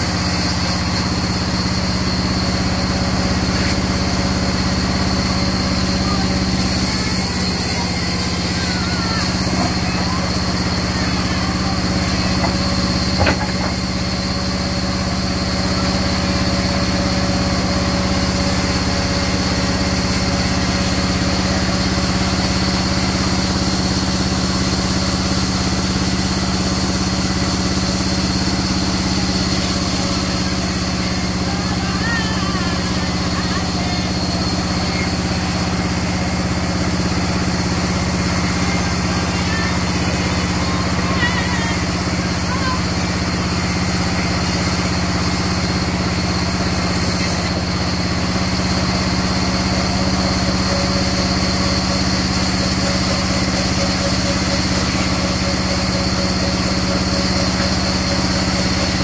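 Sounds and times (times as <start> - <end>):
band saw droning: 0.0 - 59.0.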